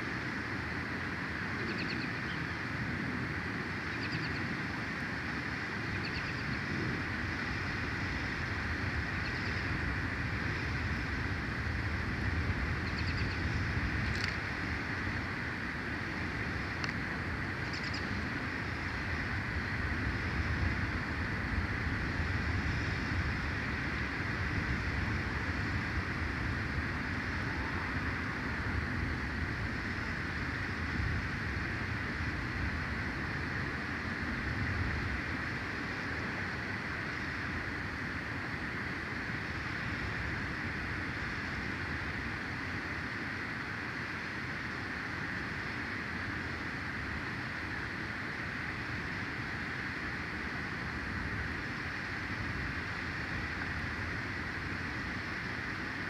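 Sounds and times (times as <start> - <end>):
even hiss: 0.0 - 56.0.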